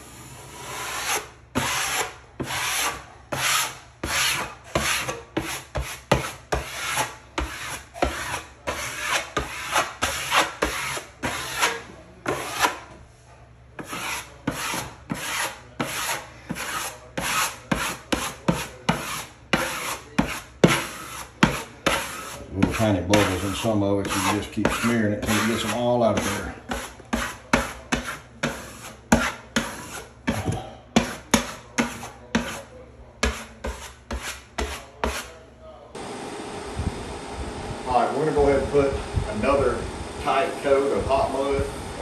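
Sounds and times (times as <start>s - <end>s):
sanding pad scratching drywall: 0.3s - 12.9s, 13.8s - 35.4s.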